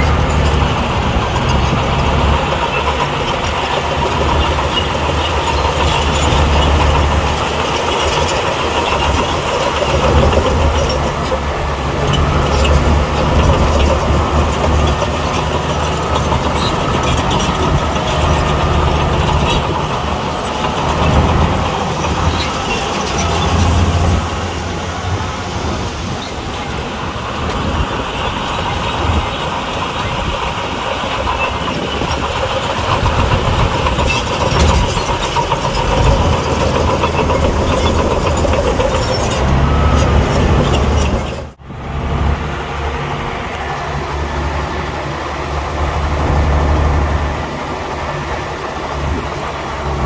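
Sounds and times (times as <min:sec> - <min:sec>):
heavy machinery diesel engine rumbling: 0:00.0 - 0:50.0.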